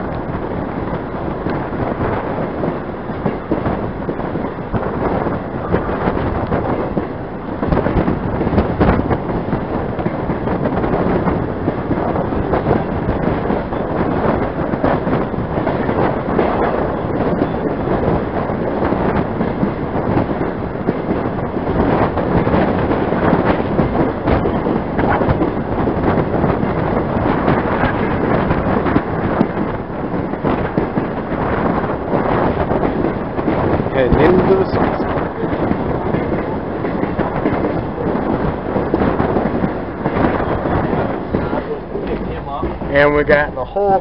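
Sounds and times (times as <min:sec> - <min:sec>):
steam train running: 0:00.0 - 0:44.0
wind on microphone: 0:00.0 - 0:44.0.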